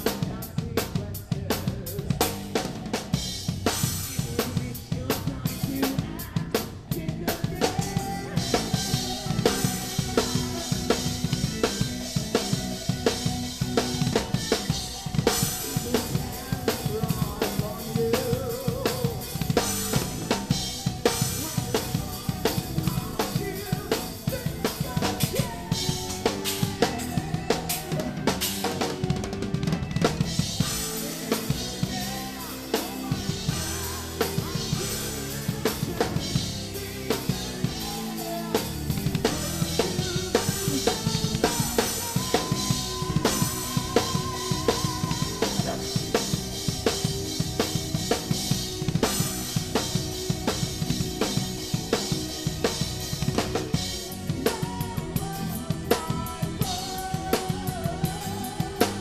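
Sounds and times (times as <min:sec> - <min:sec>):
rock drum kit: 0:00.0 - 0:59.0
sustained band instruments: 0:00.0 - 0:59.0.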